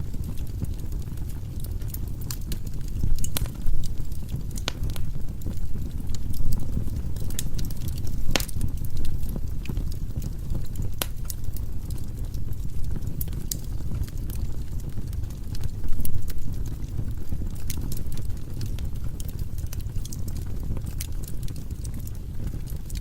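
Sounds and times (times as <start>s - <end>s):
firewood burning: 0.0s - 23.0s.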